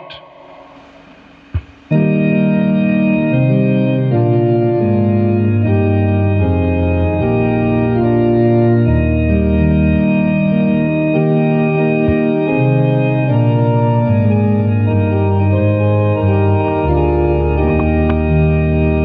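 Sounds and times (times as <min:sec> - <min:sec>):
deep bass line: 0:00.0 - 0:19.0
organ playing sustained chords: 0:00.0 - 0:19.0.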